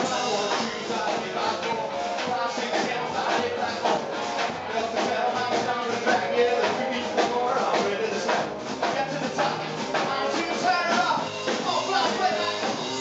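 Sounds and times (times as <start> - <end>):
drum kit beat: 0.0 - 13.0
guitar: 0.0 - 13.0
upright double bass: 0.0 - 13.0.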